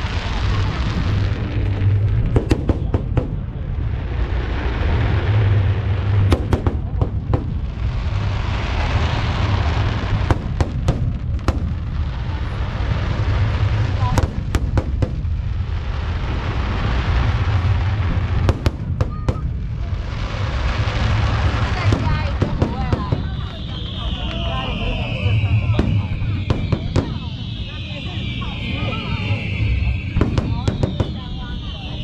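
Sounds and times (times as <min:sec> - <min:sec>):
fireworks rumble and crackle: 0:00.0 - 0:32.0.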